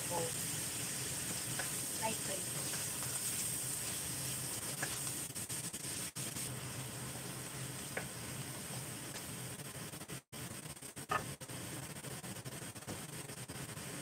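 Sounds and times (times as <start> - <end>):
beef sizzling in a wok: 0.0 - 14.0.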